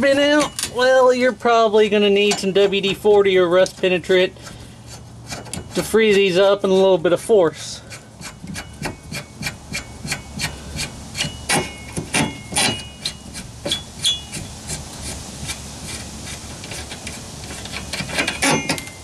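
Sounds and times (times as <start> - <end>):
nut clicking and scraping on stud: 2.2 - 6.9, 7.8 - 18.9.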